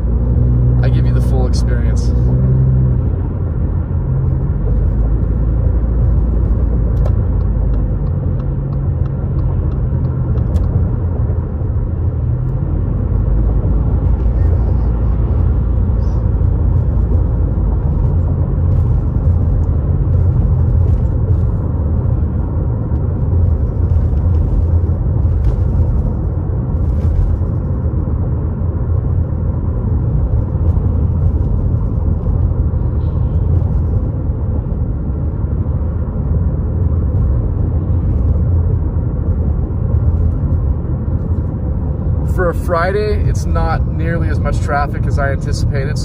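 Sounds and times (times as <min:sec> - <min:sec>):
car engine and road noise rumble: 0:00.0 - 0:46.0.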